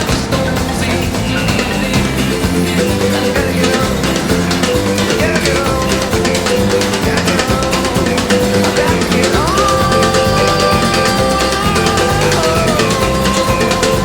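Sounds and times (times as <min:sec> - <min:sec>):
bass guitar groove: 0:00.0 - 0:14.0
drum kit: 0:00.0 - 0:14.0.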